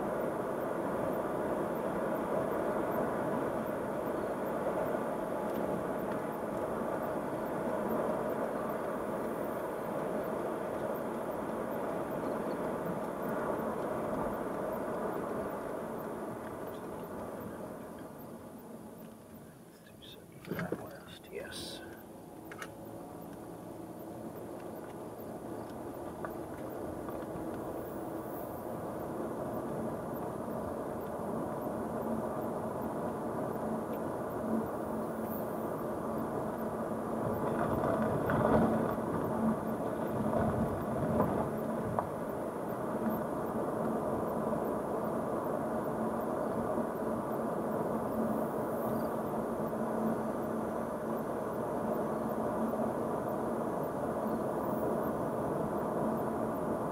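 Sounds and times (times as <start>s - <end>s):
car engine and tyre noise: 0.0s - 21.0s, 22.0s - 56.9s.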